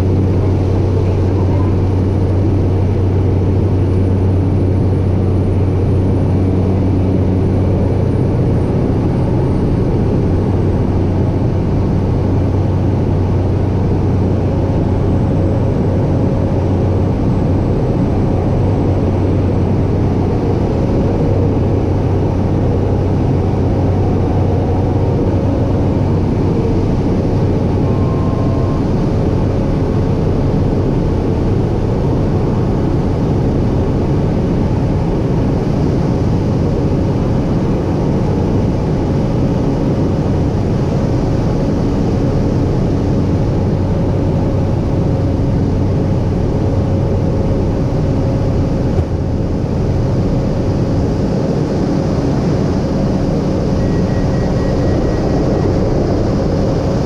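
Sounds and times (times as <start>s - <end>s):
turboprop engine droning: 0.0s - 57.0s.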